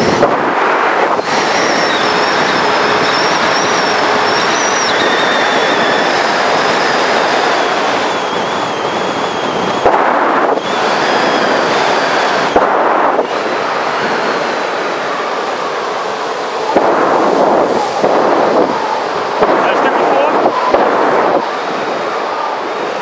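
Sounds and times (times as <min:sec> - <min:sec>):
high wavering whine: 0:00.0 - 0:23.0
wind rushing over microphone: 0:00.0 - 0:23.0.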